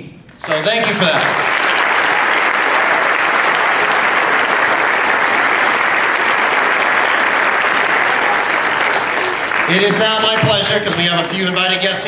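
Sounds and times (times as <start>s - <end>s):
audience applauding: 0.4s - 12.0s.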